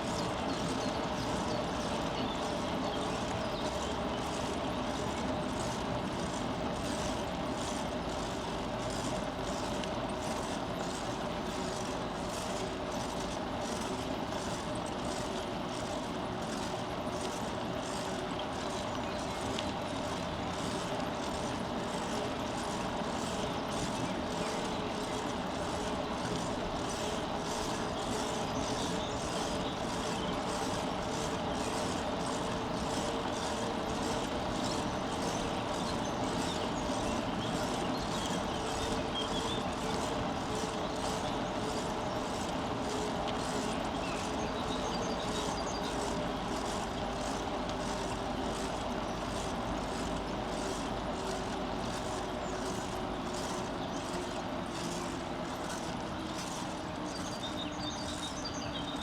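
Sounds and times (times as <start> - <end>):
bicycle ticking: 0.0 - 59.0
bicycle tyre and drivetrain noise: 0.0 - 59.0.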